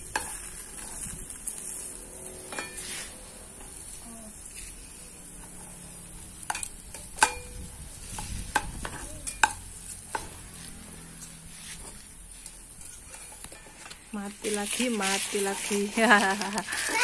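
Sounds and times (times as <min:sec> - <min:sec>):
faint steady sizzle: 0:00.0 - 0:17.0.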